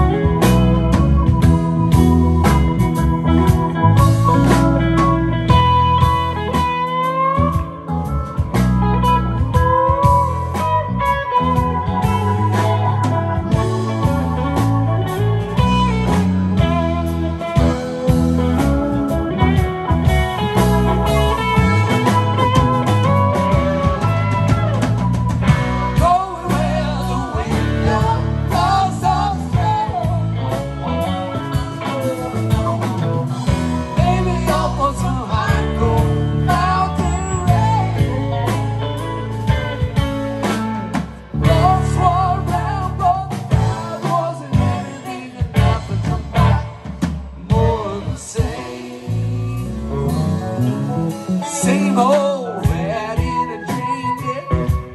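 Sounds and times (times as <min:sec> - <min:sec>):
electric guitar lead line: 0:00.0 - 0:54.9
live rock band playing: 0:00.0 - 0:54.9.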